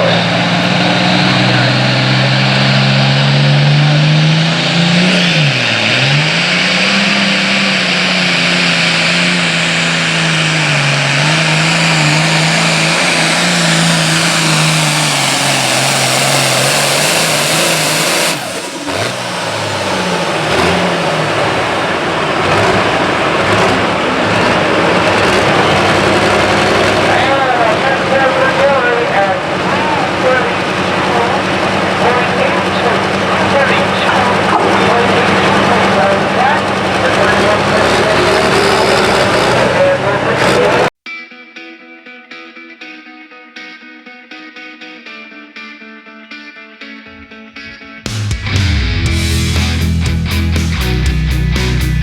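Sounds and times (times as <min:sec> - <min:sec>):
tractor diesel engine at full throttle: 0:00.0 - 0:41.0, 0:48.1 - 0:52.0.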